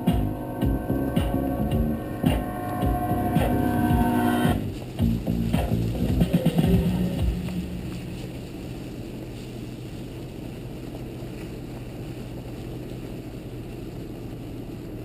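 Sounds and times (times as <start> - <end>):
off-road vehicle engine drone: 0.0 - 15.0
tyre noise: 0.0 - 15.0
wind noise: 0.0 - 15.0.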